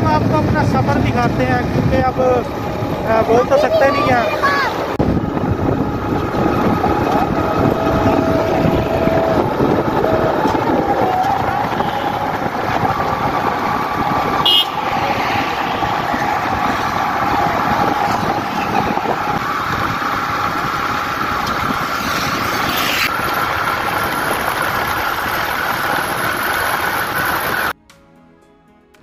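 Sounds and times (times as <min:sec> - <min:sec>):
engine running: 0:00.0 - 0:27.8
vehicle road noise: 0:00.0 - 0:27.8.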